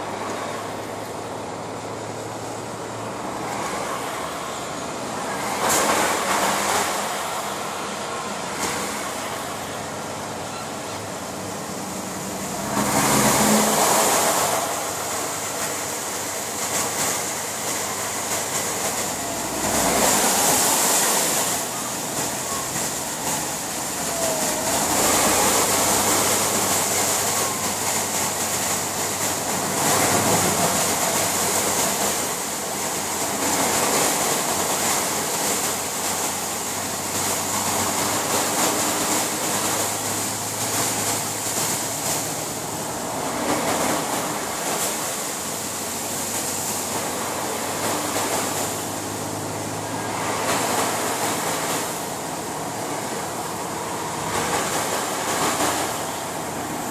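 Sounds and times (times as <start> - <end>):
truck engine humming: 0.0 - 56.9
water splashing under tyres: 0.0 - 56.9.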